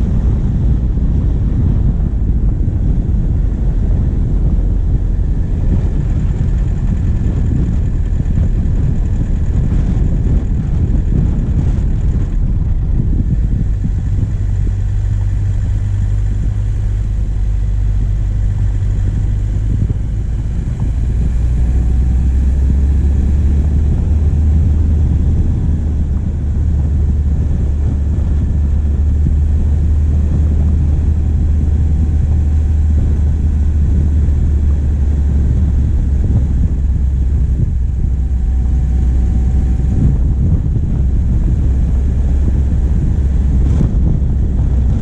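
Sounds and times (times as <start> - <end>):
diesel engine low hum: 0.0 - 45.0.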